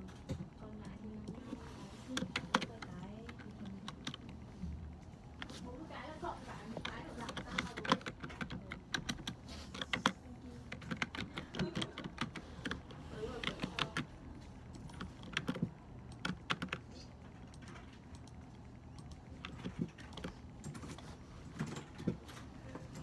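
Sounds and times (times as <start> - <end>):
computer keyboard typing: 0.0 - 23.0.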